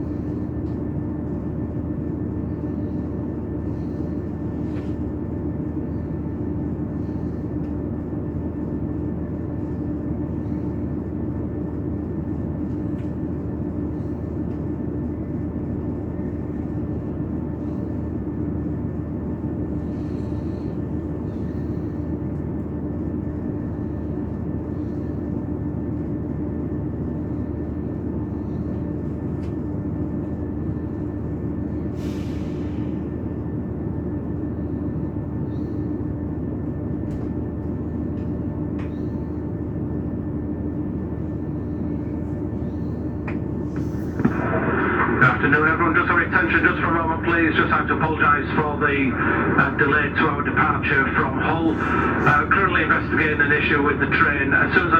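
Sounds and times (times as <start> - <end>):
train carriage drone: 0.0 - 54.9.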